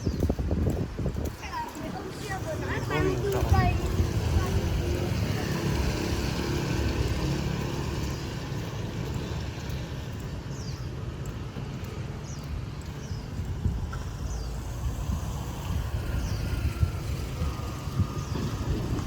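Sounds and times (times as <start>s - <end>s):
traffic engines and tyres rumbling: 0.0s - 19.0s.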